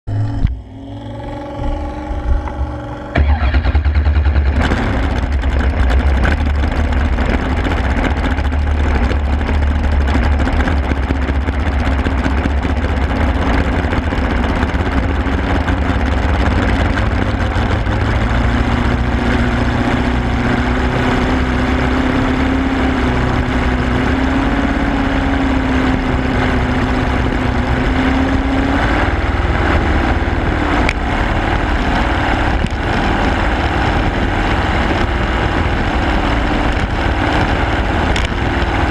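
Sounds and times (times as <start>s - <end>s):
boat motor running hard: 0.0s - 38.9s
rush of water and wind: 4.5s - 38.9s.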